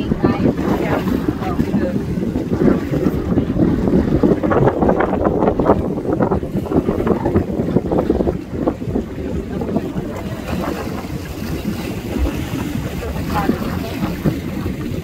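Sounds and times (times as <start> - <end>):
choppy sea: 0.0 - 15.0
wind buffeting the microphone: 0.0 - 15.0.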